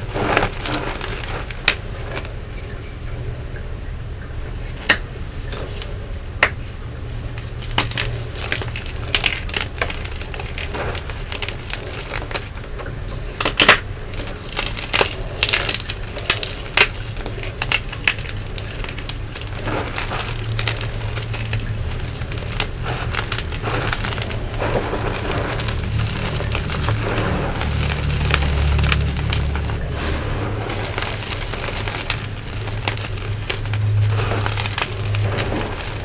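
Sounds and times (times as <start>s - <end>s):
chalk cracking: 0.0s - 3.4s, 4.4s - 36.0s
steady low hum: 0.0s - 36.0s.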